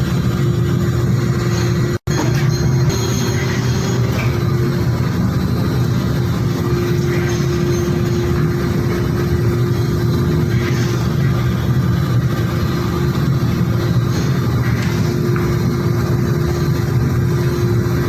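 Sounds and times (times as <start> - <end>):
machinery drone: 0.0 - 18.0.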